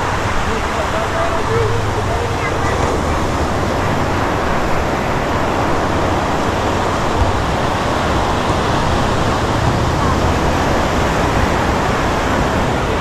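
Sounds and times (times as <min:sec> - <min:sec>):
ocean waves breaking on beach: 0:00.0 - 0:13.0.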